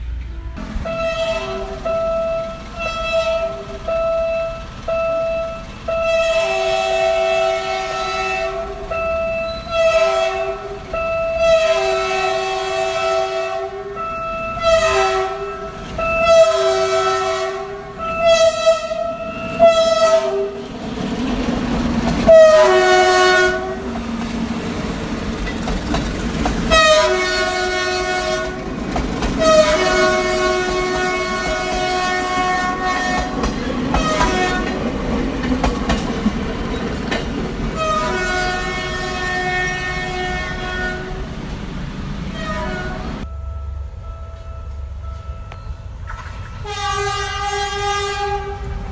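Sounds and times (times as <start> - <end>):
locomotive horn blasts: 0.0 - 25.8, 26.4 - 36.0, 37.7 - 41.4, 42.3 - 45.6, 46.2 - 48.9
train wheels clattering on rails: 0.0 - 43.3, 44.4 - 48.9.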